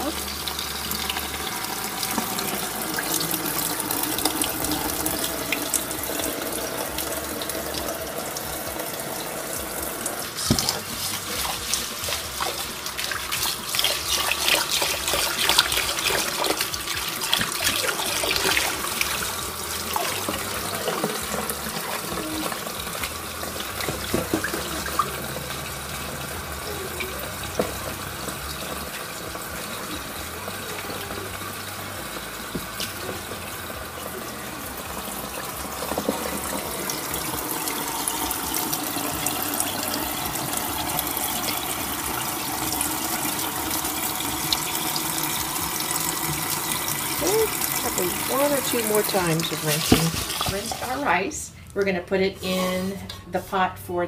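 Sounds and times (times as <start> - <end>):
tap running into bowl: 0.5 - 26.4, 27.4 - 50.9.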